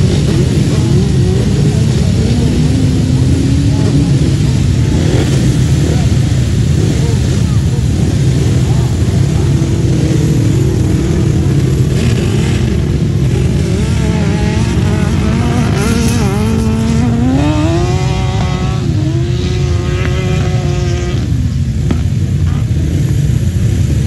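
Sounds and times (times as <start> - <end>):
engine revving high: 0.0 - 23.1
racing engines rumbling: 0.0 - 24.0.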